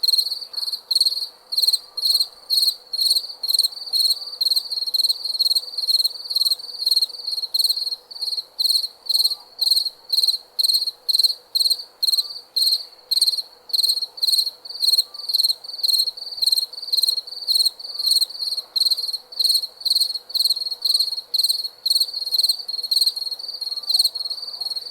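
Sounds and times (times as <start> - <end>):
cricket chirping: 0.0 - 24.9.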